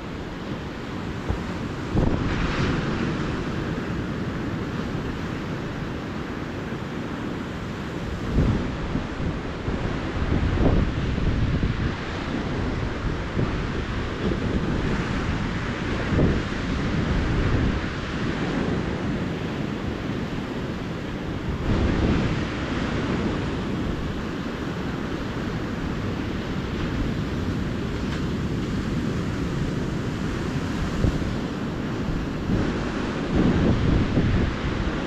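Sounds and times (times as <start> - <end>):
waves breaking on a beach: 0.0 - 35.0.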